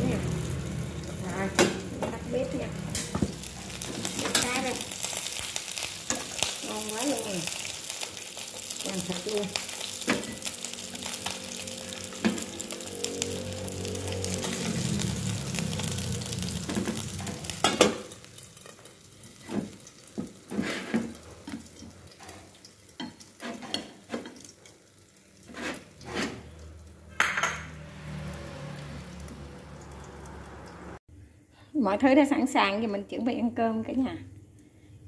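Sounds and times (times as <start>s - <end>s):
oil sizzling in frying pan: 0.0s - 31.0s.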